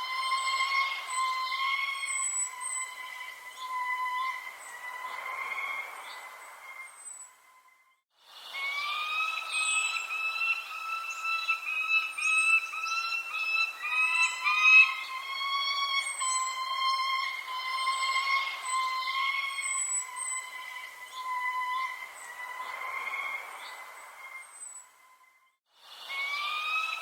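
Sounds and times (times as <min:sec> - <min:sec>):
steady whistle-like tone: 0:00.0 - 0:27.0
small birds chirping: 0:00.2 - 0:25.2.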